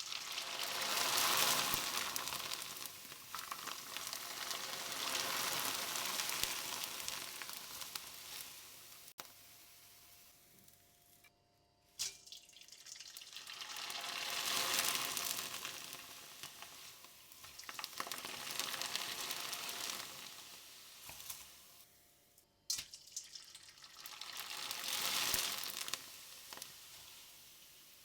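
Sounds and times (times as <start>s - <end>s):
rice sizzling in hot oil: 0.0s - 11.3s, 11.9s - 28.0s.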